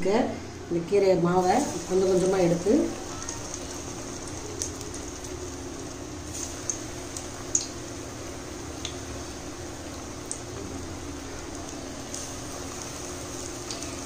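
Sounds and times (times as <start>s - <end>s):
deep-frying sizzle with pops: 1.4s - 14.0s.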